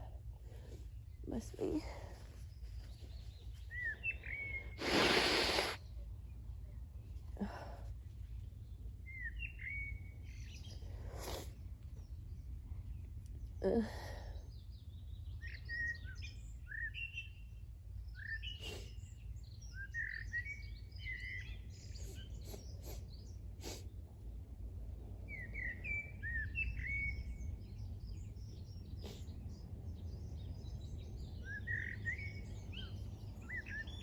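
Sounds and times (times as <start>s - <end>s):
small birds chirping: 0.0s - 24.6s, 25.2s - 34.0s.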